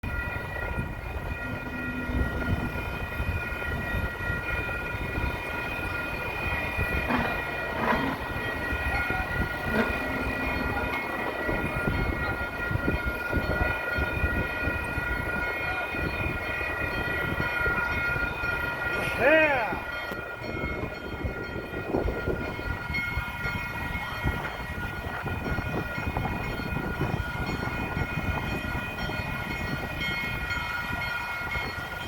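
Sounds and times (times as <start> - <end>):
high held tones: 0.0 - 32.0
steam locomotive rumble: 0.0 - 32.0.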